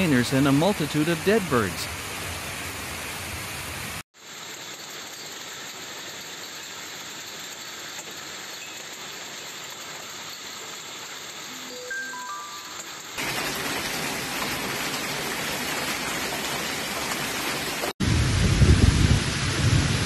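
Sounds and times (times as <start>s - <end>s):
heavy rain and hail hissing: 0.0s - 20.0s.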